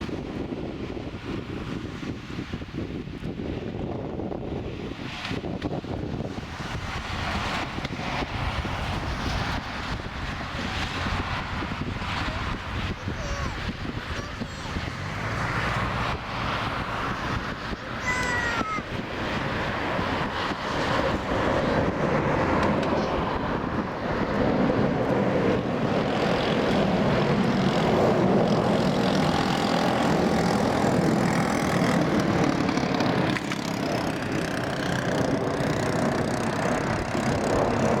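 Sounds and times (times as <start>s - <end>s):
jet engine taking off: 0.0s - 38.0s
wind buffeting microphone: 0.0s - 38.0s.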